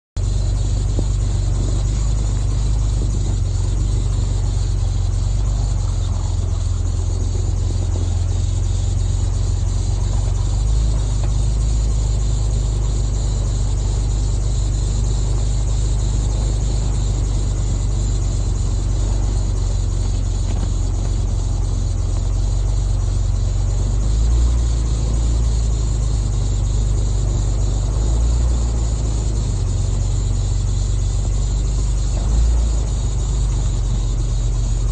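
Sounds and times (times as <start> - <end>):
vehicle engine and tyres rumbling: 0.0 - 34.9.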